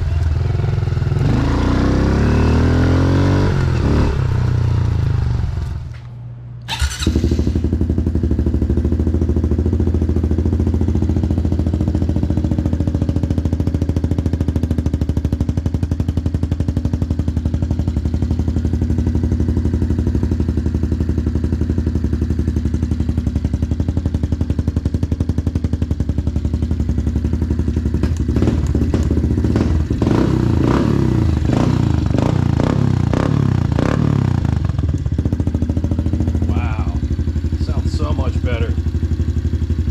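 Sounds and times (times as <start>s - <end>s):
motorbike engine idling and revving: 0.0s - 39.9s.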